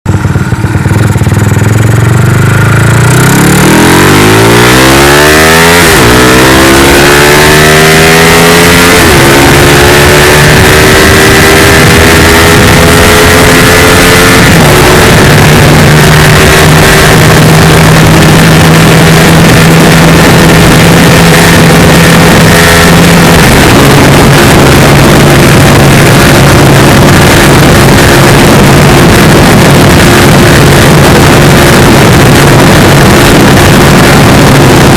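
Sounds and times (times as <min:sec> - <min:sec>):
motorcycle engine accelerating: 0:00.0 - 0:34.9
wind rushing over microphone: 0:00.2 - 0:34.9.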